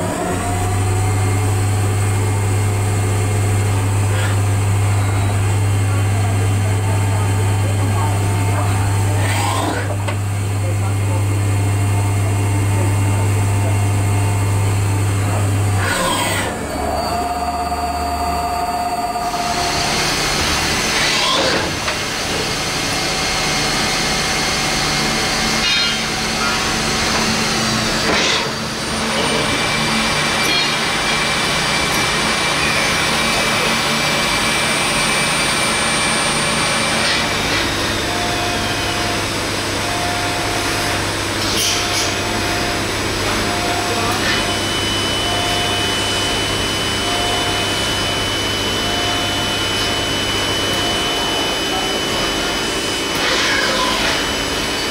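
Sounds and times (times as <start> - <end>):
lathe whirring: 0.0 - 54.9
motor hum: 0.0 - 54.9.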